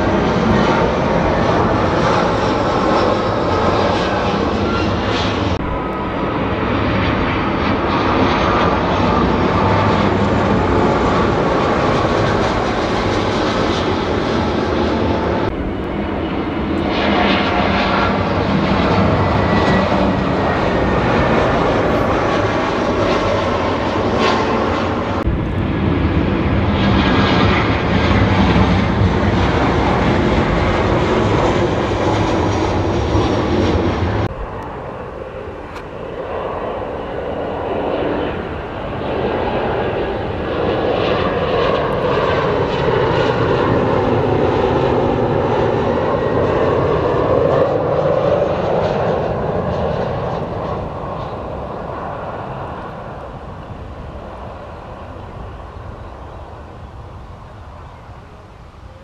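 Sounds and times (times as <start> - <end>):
jet engine whine falling: 0.0 - 59.0
jet engines roaring overhead: 0.0 - 59.0.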